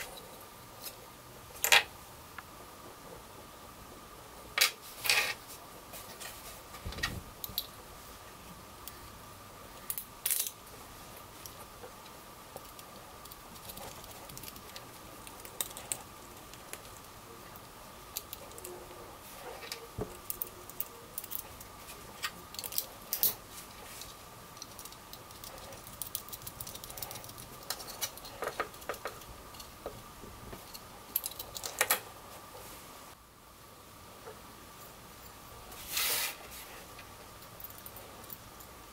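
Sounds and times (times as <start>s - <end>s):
faint steady whine: 0.0s - 38.9s.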